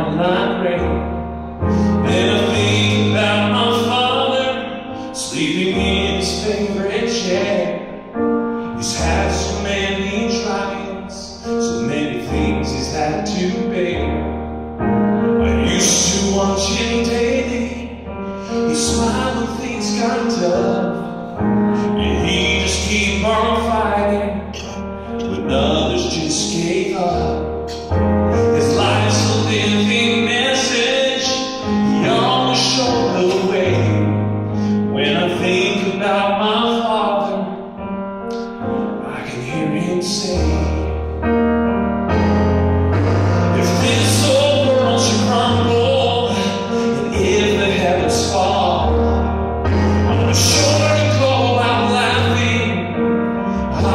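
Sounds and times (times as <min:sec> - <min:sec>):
electronic keyboard chords: 0:00.0 - 0:53.9
man singing ballad: 0:00.0 - 0:53.9.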